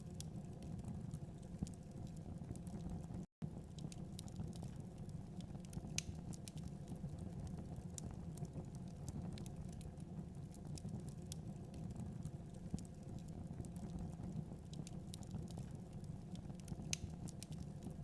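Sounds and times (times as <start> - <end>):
fire crackles and pops: 0.0 - 18.0
wood fire rumbling: 0.0 - 18.0.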